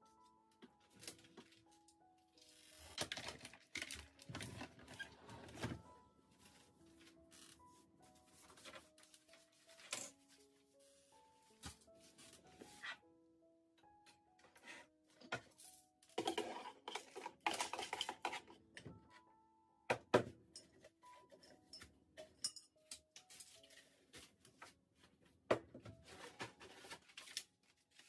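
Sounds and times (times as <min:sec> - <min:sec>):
soft background music: 0:00.0 - 0:28.0
desk items rustling and clattering: 0:00.6 - 0:01.8, 0:02.9 - 0:07.6, 0:08.2 - 0:13.0, 0:14.4 - 0:19.0, 0:19.9 - 0:28.0.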